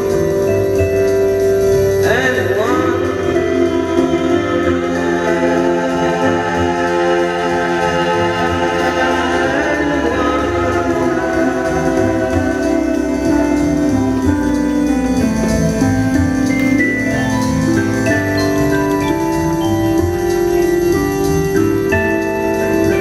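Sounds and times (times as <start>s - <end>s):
organ-like keyboard chords: 0.0s - 23.0s.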